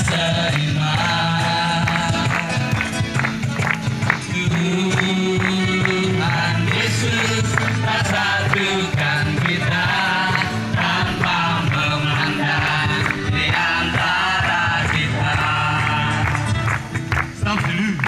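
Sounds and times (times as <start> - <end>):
voices singing praise song: 0.0 - 17.0
instrumental accompaniment with beat: 0.0 - 18.0.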